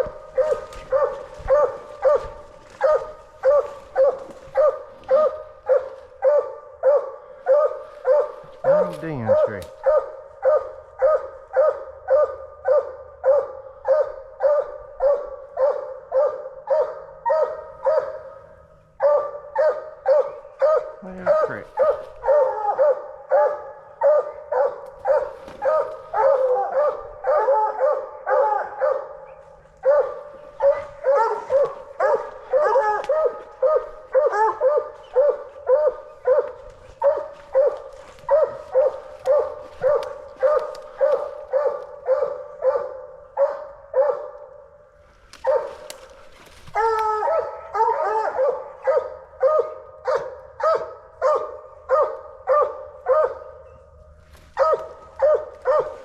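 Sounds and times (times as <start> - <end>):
hounds barking: 0.0 - 56.0.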